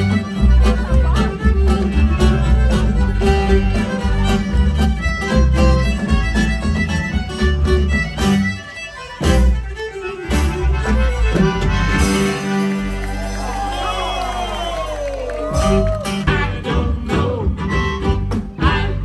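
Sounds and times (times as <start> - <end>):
fiddle tune: 0.0 - 13.9, 15.5 - 19.0
live band playing: 0.0 - 19.0.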